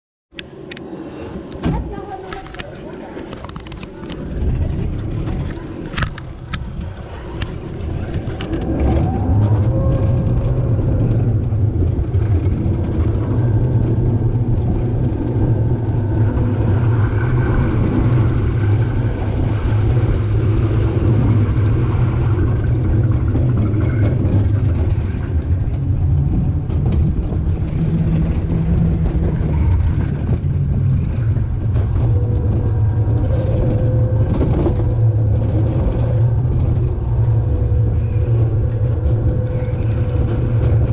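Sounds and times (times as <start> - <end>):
sled rumbling down steel trough: 3.4 - 40.9.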